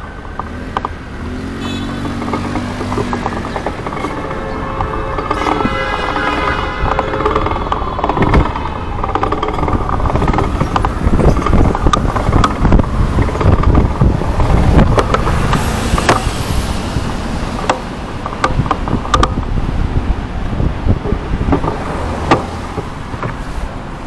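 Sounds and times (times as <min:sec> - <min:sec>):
street traffic rumble: 0:00.0 - 0:24.0
bicycle clicks and rattles: 0:01.8 - 0:23.6.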